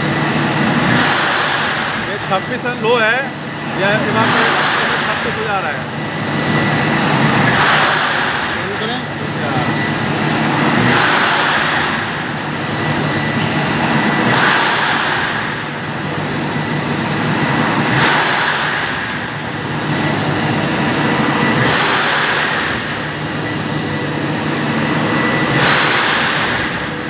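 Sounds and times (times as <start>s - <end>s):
compressor rushing whoosh: 0.0s - 27.0s
steady high-pitched tones: 0.0s - 27.0s.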